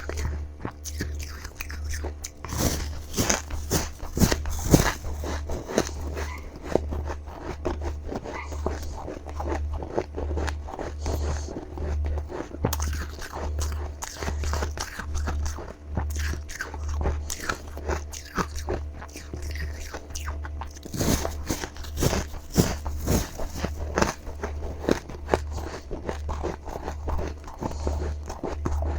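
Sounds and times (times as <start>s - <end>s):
crunchy chewing of frost: 0.0s - 28.9s.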